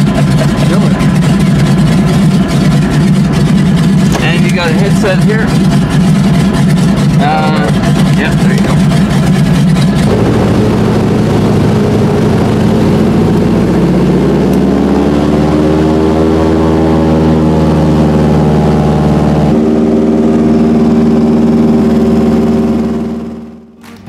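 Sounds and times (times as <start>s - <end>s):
plane piston engine running: 0.0s - 24.0s.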